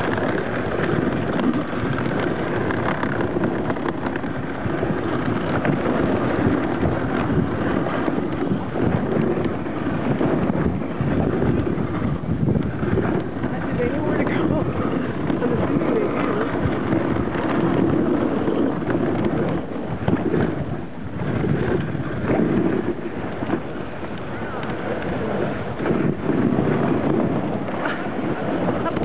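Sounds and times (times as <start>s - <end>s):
sled knocks and rattles: 0.0s - 29.0s
wind buffeting microphone: 0.0s - 29.0s.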